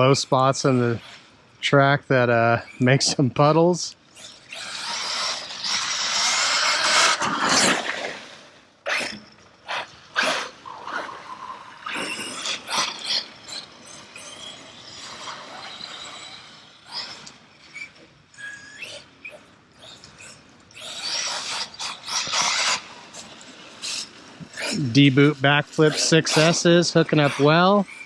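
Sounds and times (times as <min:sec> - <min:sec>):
tyres churning through mud: 0:00.0 - 0:28.0
electric motor whining: 0:04.0 - 0:28.0.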